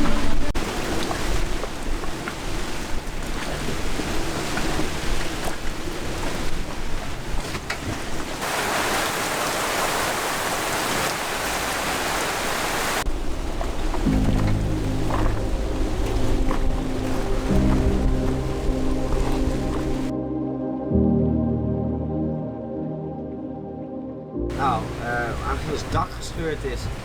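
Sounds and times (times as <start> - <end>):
rain: 0.0 - 20.1, 24.5 - 27.0
sea noise: 0.0 - 20.1, 24.5 - 27.0
wind: 0.0 - 20.1, 24.5 - 27.0.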